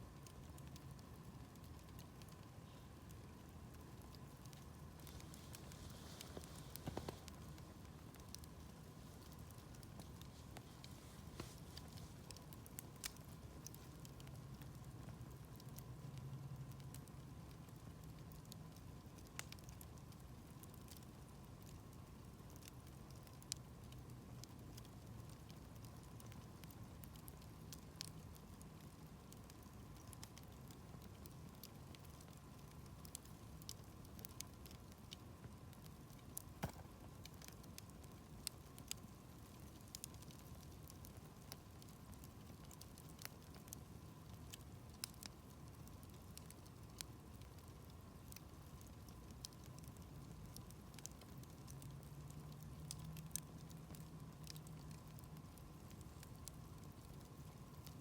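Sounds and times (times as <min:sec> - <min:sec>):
campfire crackling: 0:00.0 - 0:58.0
faint low background noise: 0:00.0 - 0:58.0.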